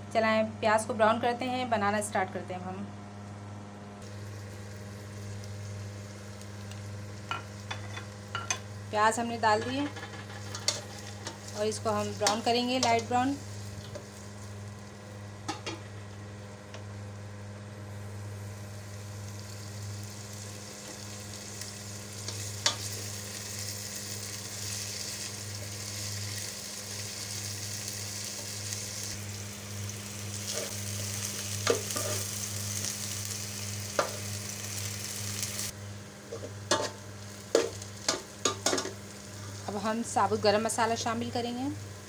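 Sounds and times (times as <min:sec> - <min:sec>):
onions sizzling in hot oil: 0:04.0 - 0:42.0.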